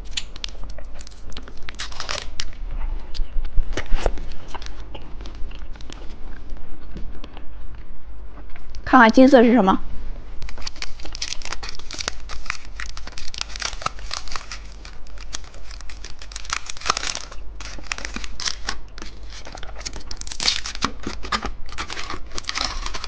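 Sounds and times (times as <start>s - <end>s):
candy wrapper crinkling and tearing: 0.0s - 6.1s, 10.4s - 23.0s.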